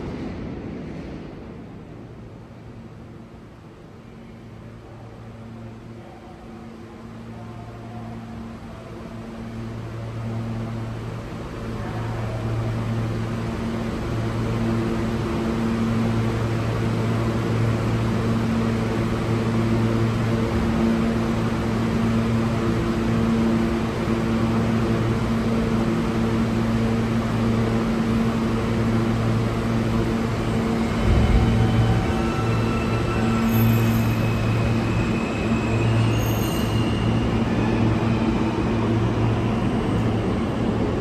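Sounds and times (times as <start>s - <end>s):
subway train hum and rolling: 0.0s - 41.0s.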